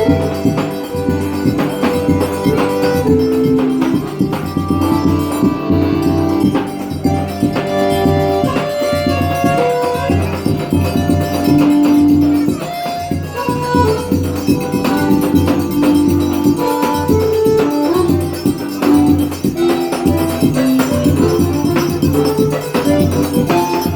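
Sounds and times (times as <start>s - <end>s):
folk dance music: 0.0s - 23.9s
shaken percussion: 0.0s - 23.9s.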